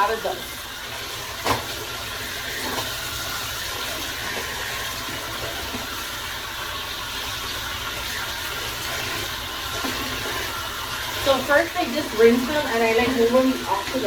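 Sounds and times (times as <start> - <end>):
shower spray on mats: 0.0 - 14.0.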